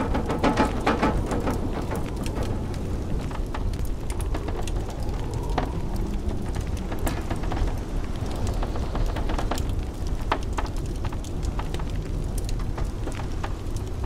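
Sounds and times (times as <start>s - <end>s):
blizzard wind rumbling: 0.0s - 14.0s
wood fire crackling and popping: 0.0s - 14.0s.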